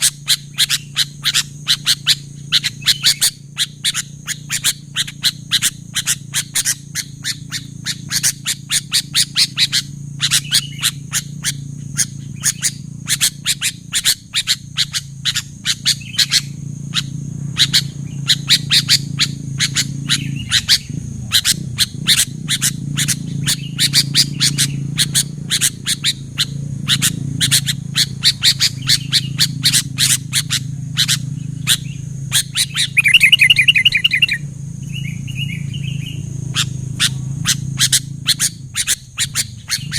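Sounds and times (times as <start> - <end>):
bulbul chattering call: 0.0 - 39.9
low hum: 0.0 - 39.9.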